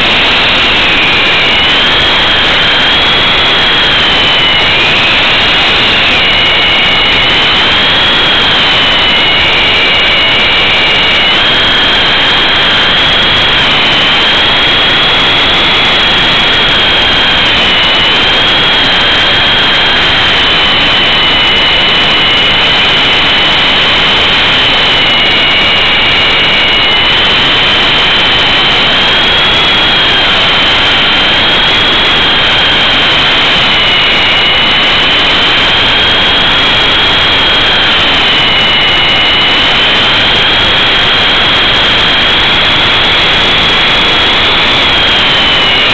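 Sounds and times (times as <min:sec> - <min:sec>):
electric motor whine: 0:00.0 - 0:45.9.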